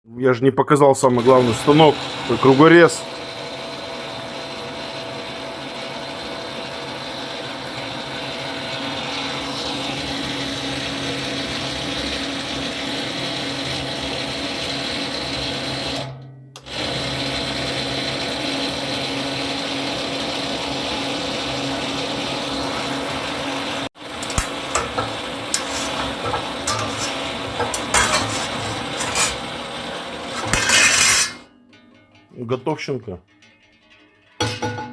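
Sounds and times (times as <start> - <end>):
cutting machine humming and clattering: 1.1 - 31.4.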